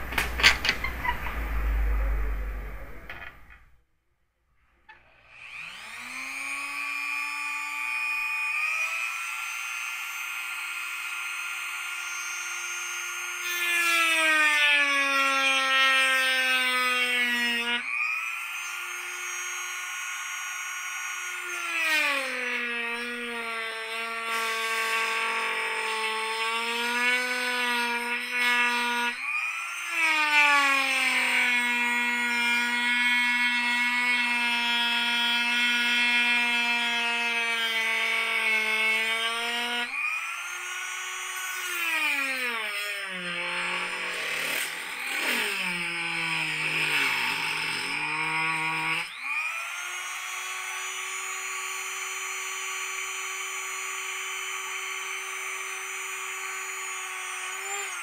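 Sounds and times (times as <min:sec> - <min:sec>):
rotary tool cutting plastic: 0:04.9 - 0:58.0.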